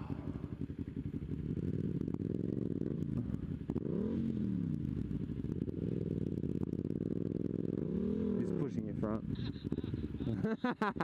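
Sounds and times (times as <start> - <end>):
motorcycle engine revving: 0.0 - 11.0
motorcycle engine running: 0.0 - 11.0.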